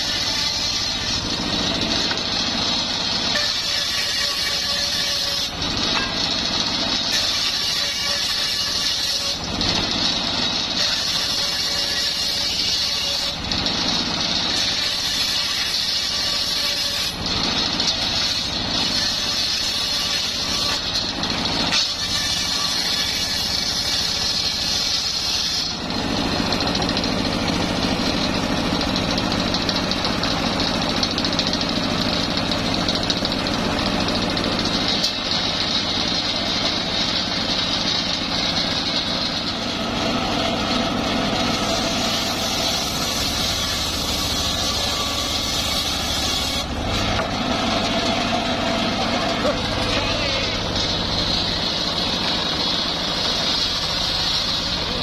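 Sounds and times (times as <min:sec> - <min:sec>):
engine running: 0:00.0 - 0:07.7, 0:08.3 - 0:55.0
circular saw whine: 0:00.0 - 0:29.6, 0:31.8 - 0:55.0.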